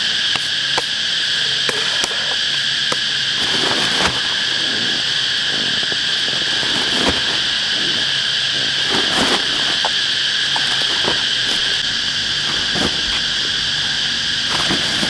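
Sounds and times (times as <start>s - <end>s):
insects buzzing drone: 0.0s - 15.0s.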